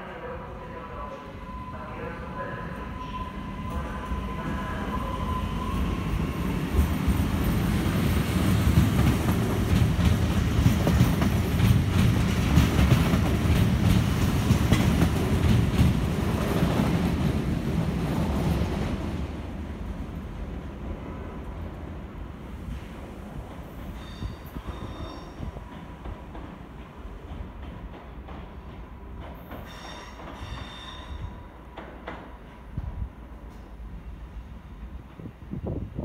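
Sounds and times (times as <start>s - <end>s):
train wheels rumbling on rails: 3.6s - 36.0s.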